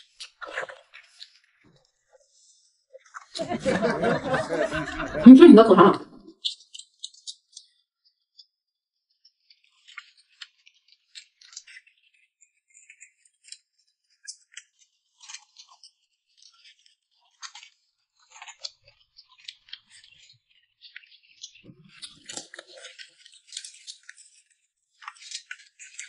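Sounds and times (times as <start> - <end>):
chewing and crunching: 0.0 - 3.4, 6.4 - 8.6, 9.2 - 26.0.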